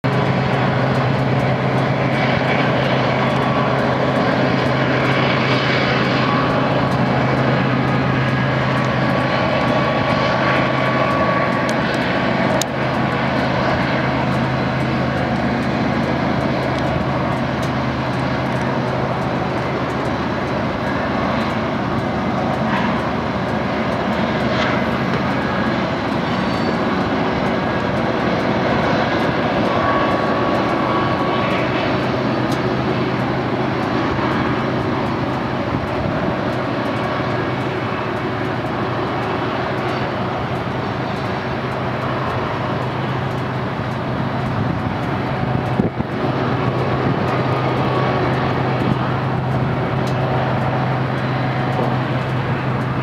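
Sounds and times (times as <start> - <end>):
freight cars rolling past: 0.0 - 53.0
locomotive engine drone: 0.0 - 53.0.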